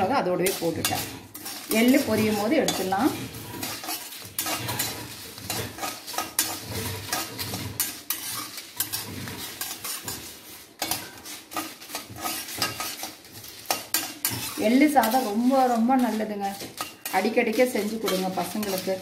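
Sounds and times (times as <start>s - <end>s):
metal spoon scraping roasting seeds: 0.0s - 19.0s.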